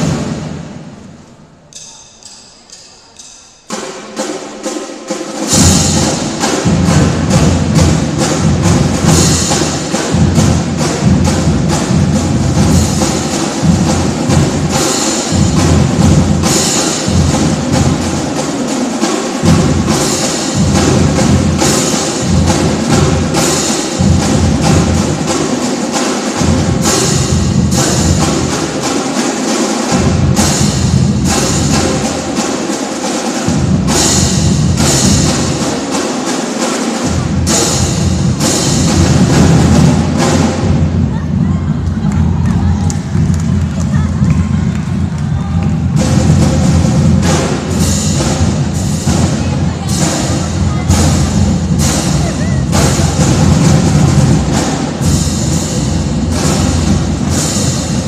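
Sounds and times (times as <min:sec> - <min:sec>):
snare drums: 0:00.0 - 0:58.0
marching bass drums: 0:03.2 - 0:58.0.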